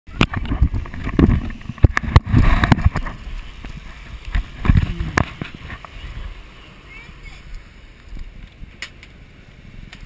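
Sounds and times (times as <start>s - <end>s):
boat noise: 0.1s - 10.0s
wind: 0.1s - 10.0s.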